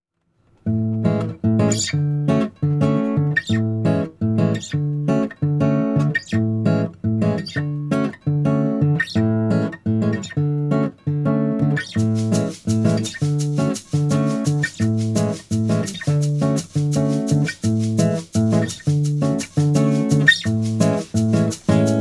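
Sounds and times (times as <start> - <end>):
strummed acoustic guitar: 0.6 - 22.0.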